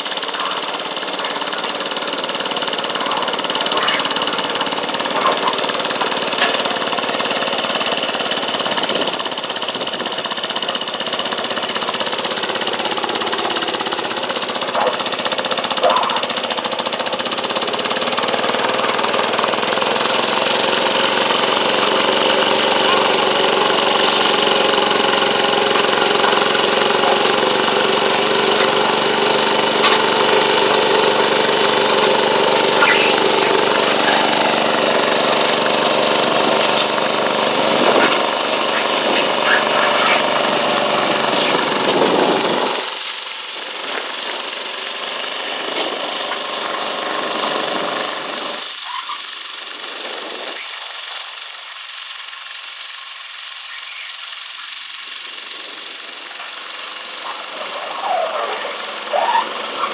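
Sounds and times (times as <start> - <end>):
tractor engine under load: 0.0 - 48.8, 56.1 - 59.9.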